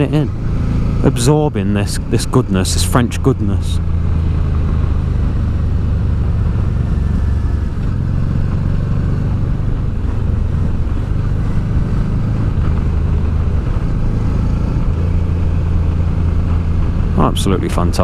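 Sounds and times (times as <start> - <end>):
motorcycle engine running: 0.0 - 18.0
wind noise: 3.4 - 18.0.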